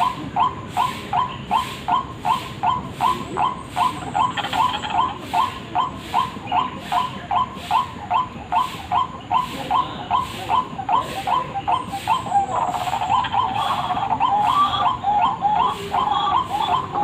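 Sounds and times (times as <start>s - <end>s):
waterhen harsh calls: 0.0s - 17.0s.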